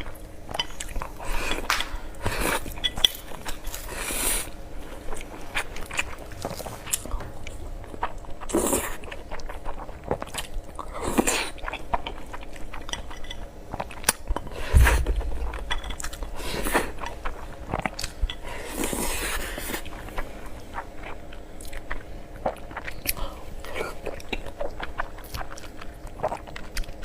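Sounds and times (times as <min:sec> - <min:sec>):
close chewing with mouth clicks: 0:00.0 - 0:27.0.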